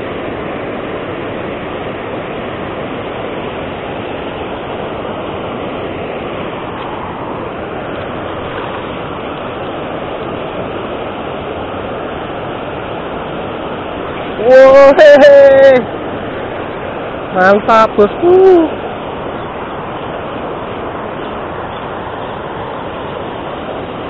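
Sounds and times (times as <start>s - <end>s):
water rushing over weir: 0.0s - 24.0s.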